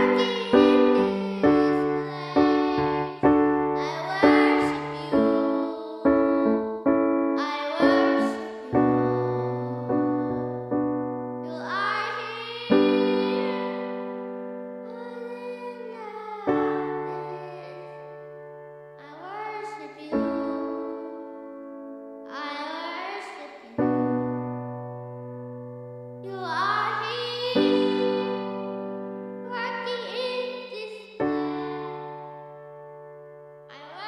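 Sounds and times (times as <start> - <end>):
piano playing slow chords: 0.0 - 23.2, 23.8 - 34.0.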